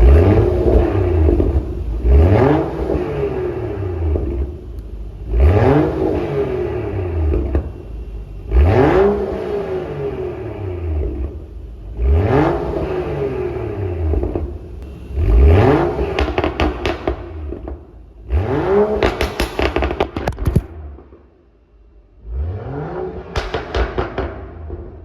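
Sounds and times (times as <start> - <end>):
car engine revving: 0.0 - 21.2, 21.8 - 25.0
exhaust crackling burbles: 0.0 - 25.0.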